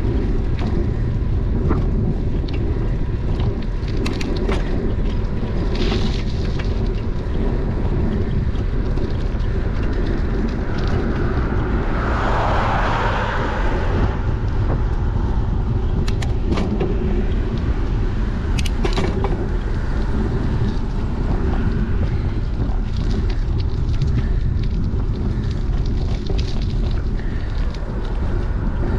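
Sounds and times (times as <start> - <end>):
wind rushing over microphone: 0.0 - 28.9.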